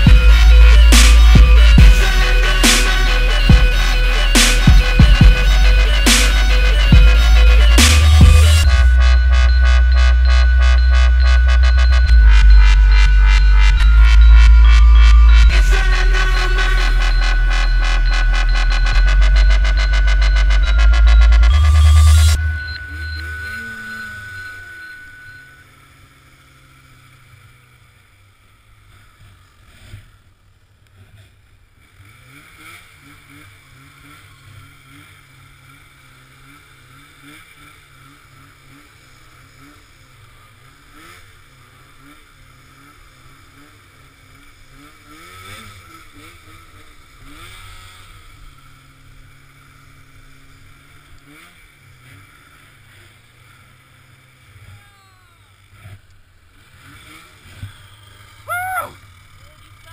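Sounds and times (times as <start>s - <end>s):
muffled snowmobile engine idling: 0.0s - 59.9s.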